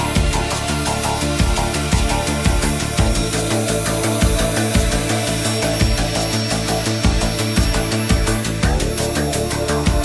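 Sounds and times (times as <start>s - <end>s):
energetic electronic music: 0.0s - 10.0s.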